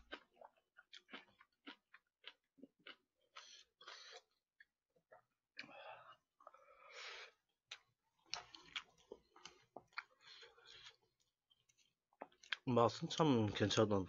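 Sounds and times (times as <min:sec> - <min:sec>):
soft chewing: 0:00.0 - 0:12.7.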